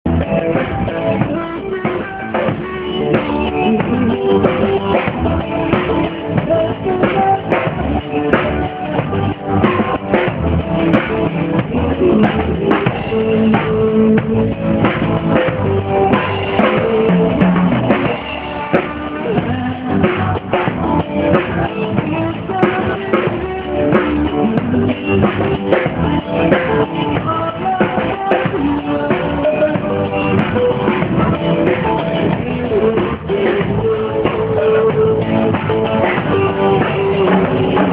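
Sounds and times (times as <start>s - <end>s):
rock band through car speakers: 0.0s - 37.9s.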